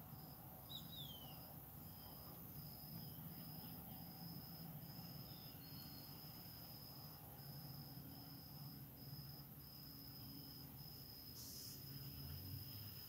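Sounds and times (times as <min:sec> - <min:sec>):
faint high insect trilling: 0:00.0 - 0:13.0.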